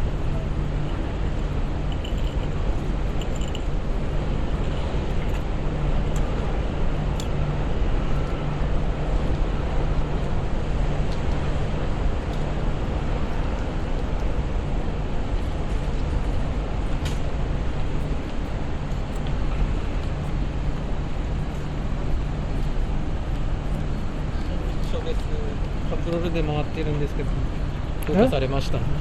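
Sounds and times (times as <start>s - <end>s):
constant low hum: 0.0s - 29.0s
traffic rumble: 0.0s - 29.0s.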